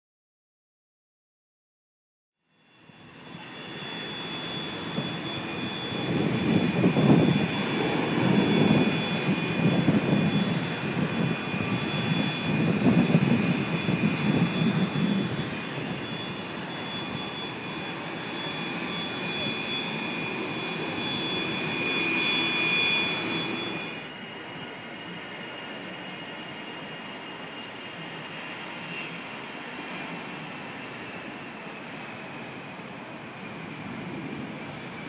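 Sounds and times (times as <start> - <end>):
jet engines whining: 2.7 - 35.0.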